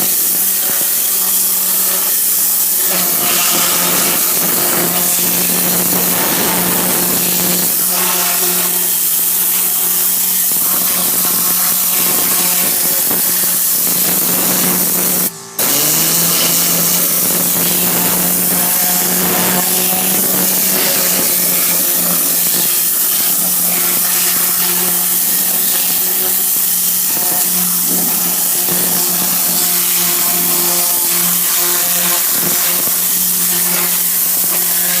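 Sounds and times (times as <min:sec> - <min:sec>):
compressed-air gun rushing hiss: 0:00.0 - 0:35.0
steady hum: 0:00.0 - 0:35.0.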